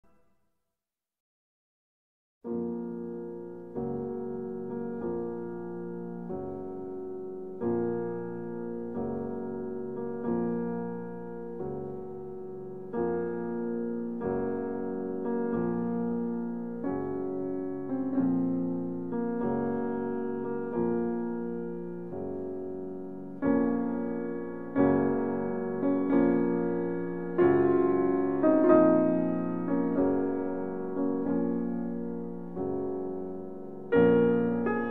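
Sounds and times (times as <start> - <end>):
slow piano chords: 2.5 - 34.9.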